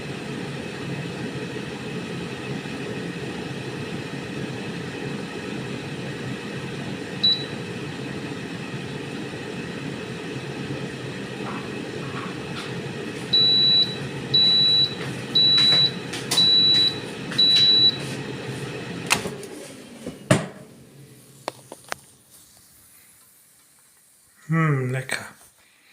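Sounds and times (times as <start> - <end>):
air fryer fan hum: 0.0 - 23.5.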